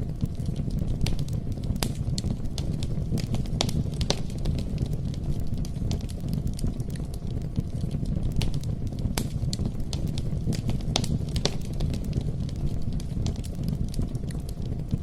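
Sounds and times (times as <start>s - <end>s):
sharp pops and snaps: 0.0s - 15.0s
wood fire crackling: 0.0s - 15.0s.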